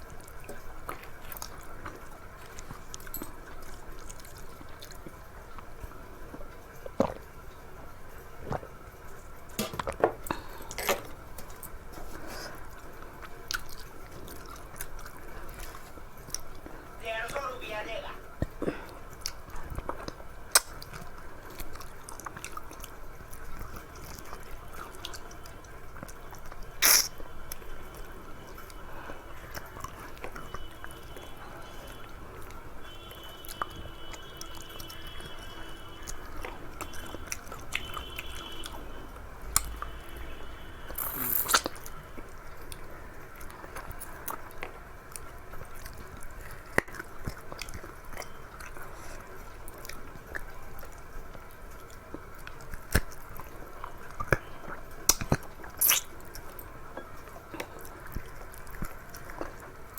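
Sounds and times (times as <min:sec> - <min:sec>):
person chewing and smacking: 0:00.0 - 0:16.9, 0:18.3 - 0:59.9.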